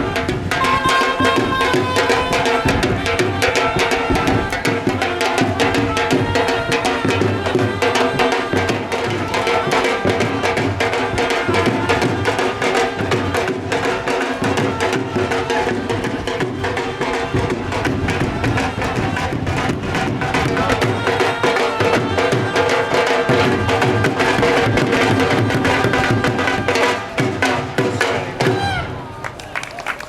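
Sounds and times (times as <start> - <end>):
dhol drums fast rhythm: 0.0 - 29.0.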